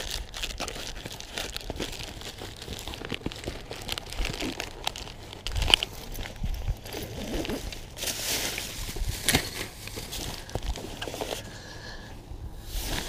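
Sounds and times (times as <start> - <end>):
clothing rustling and gear clicks: 0.7 - 11.5.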